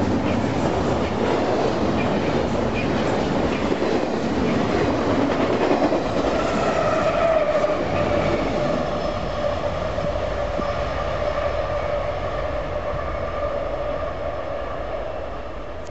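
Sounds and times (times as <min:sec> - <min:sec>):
freight train rumbling: 0:00.0 - 0:15.9.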